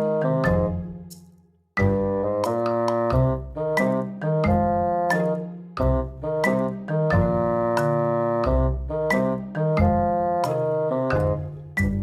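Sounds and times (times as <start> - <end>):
keyboard music: 0.0 - 12.0.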